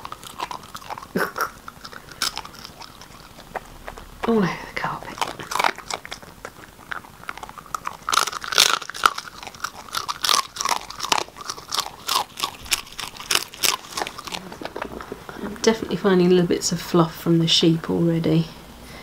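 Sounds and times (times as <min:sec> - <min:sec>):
dog crunching a treat: 0:00.0 - 0:15.8.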